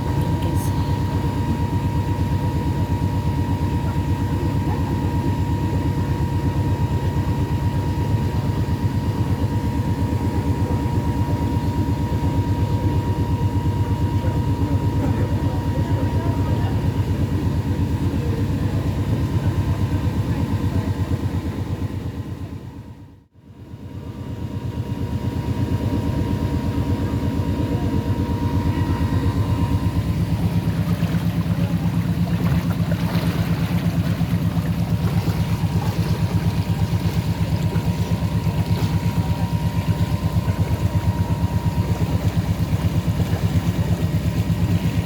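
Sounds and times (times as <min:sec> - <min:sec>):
boat engine throbbing: 0:00.0 - 0:23.0, 0:23.8 - 0:45.0.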